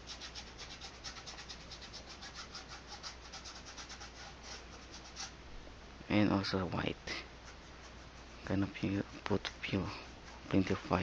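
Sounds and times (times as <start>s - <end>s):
paintbrush scrubbing paint: 0.0s - 5.3s, 7.4s - 11.0s.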